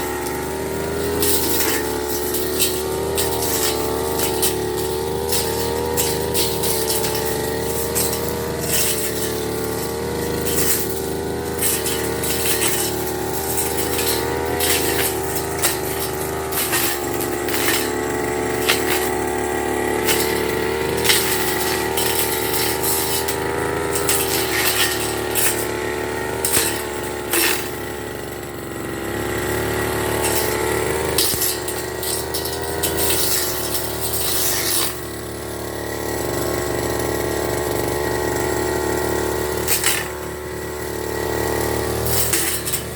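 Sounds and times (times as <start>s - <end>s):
brush cutter engine running: 0.0s - 42.9s
clicks and swishes cutting grass: 0.0s - 42.9s.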